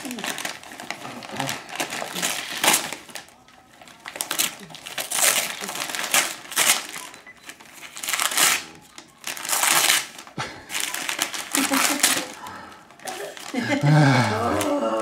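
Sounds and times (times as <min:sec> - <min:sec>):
foil wrapping paper crinkling and tearing: 0:00.0 - 0:15.0.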